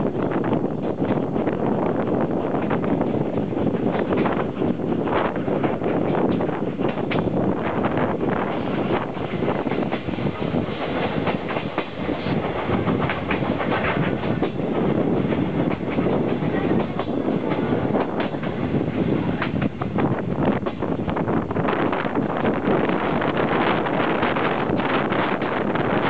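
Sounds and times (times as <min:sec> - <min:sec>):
train wheels clattering over rail joints: 0:00.1 - 0:26.0.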